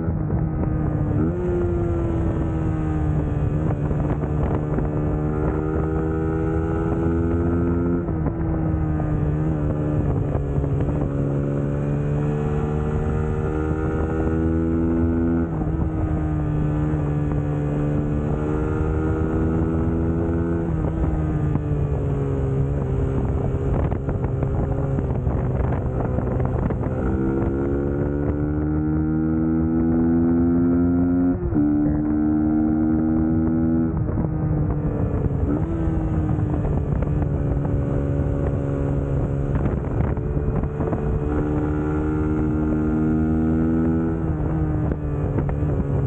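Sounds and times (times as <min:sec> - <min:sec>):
motorcycle engine running: 0:00.0 - 0:46.0
wind noise on microphone: 0:00.0 - 0:46.0.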